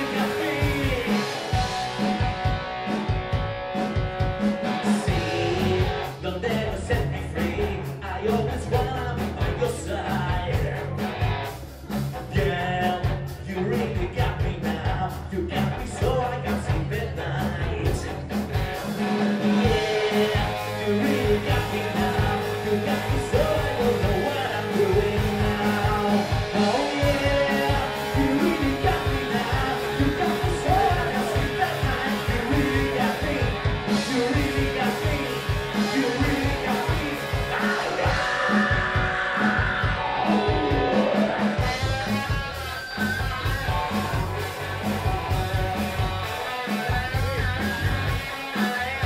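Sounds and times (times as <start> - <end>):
male singer: 0.0 - 1.7, 4.8 - 11.1, 12.2 - 18.4, 19.1 - 42.1, 46.5 - 49.0
bass guitar: 0.0 - 49.0
drum kit steady beat: 0.0 - 49.0
electric guitar: 0.0 - 49.0.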